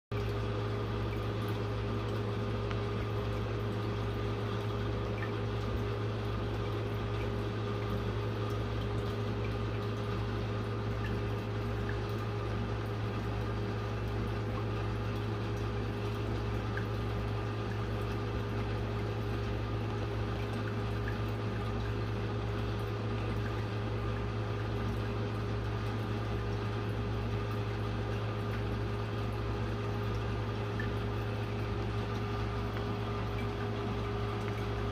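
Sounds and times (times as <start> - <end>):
aquarium pump humming: 0.1 - 34.9
moving water: 0.1 - 34.9.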